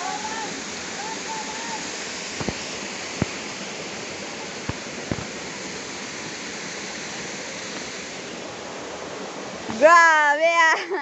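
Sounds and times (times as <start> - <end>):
steady rushing noise: 0.0 - 10.6.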